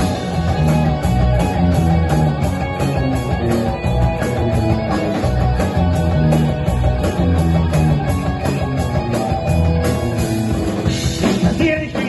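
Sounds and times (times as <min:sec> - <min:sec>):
distorted electric guitars: 0:00.0 - 0:12.0
drum kit: 0:00.0 - 0:12.0
electric bass: 0:00.0 - 0:12.0.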